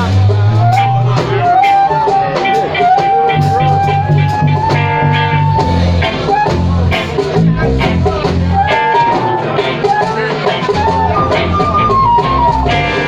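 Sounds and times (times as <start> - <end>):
bass and drums: 0.0 - 13.0
sliding lead guitar: 0.0 - 13.0.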